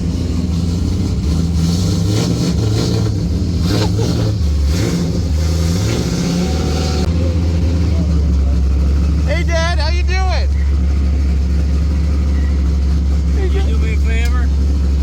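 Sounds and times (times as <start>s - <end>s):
loud engine running at low revs: 0.0s - 15.0s.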